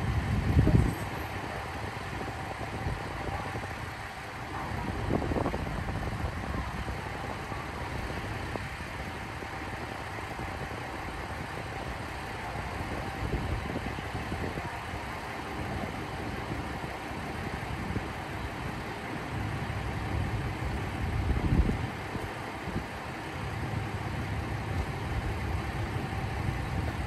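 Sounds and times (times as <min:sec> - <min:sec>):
faint constant hum: 0:00.0 - 0:27.0
train rumbling: 0:00.0 - 0:27.0.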